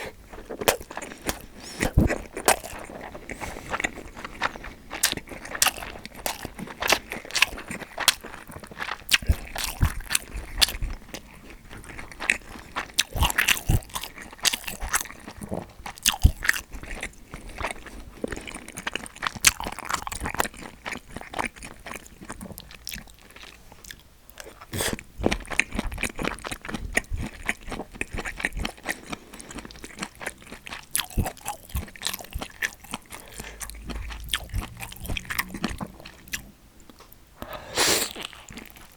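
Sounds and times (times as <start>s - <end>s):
close-up chewing and biting: 0.0s - 38.9s.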